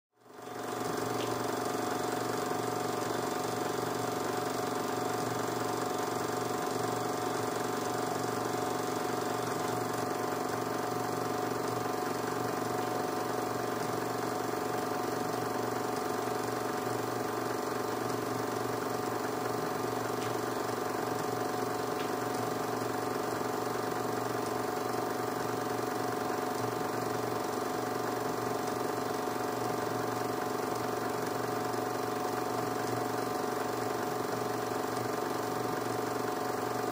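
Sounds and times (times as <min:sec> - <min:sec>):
film projector whirring: 0:00.2 - 0:36.9.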